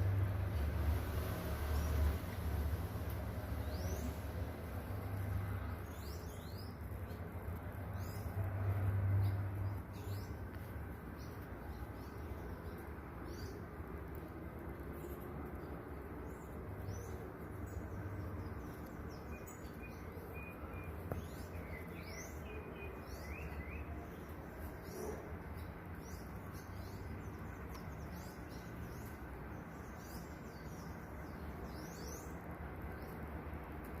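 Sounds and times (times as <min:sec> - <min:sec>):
low outdoor background hum: 0:00.0 - 0:34.0
small birds chirping: 0:00.0 - 0:34.0.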